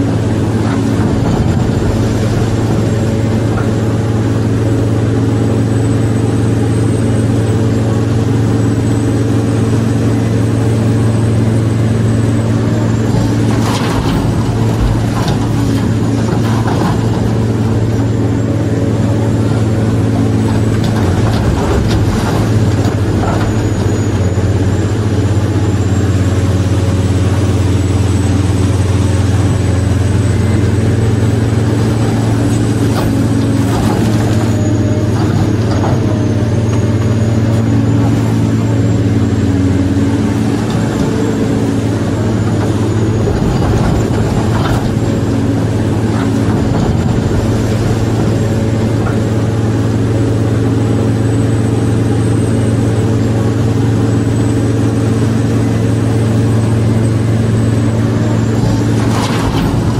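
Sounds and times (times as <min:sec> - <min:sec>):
deep engine drone: 0:00.0 - 0:59.9.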